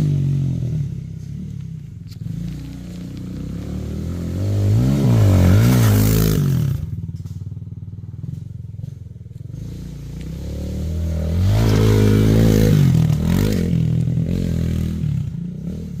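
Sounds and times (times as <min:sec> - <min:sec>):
dirt bike engine revving: 0:00.0 - 0:01.4, 0:02.2 - 0:07.3, 0:08.0 - 0:16.0.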